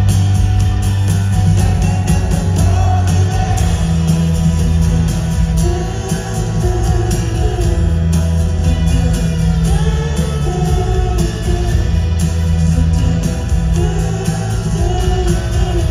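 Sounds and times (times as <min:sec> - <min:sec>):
rock band playing live: 0:00.0 - 0:15.9
man singing: 0:01.9 - 0:15.9.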